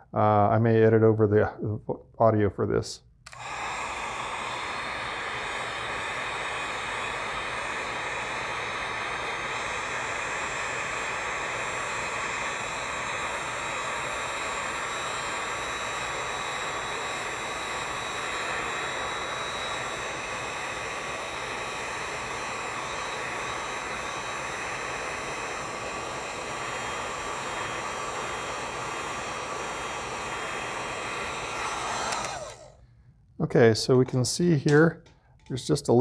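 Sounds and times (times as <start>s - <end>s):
heat gun blowing: 3.2s - 33.0s.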